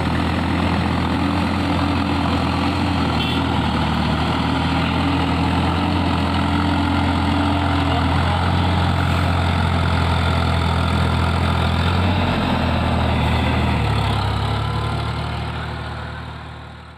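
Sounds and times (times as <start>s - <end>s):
tractor diesel engine running: 0.0s - 16.9s.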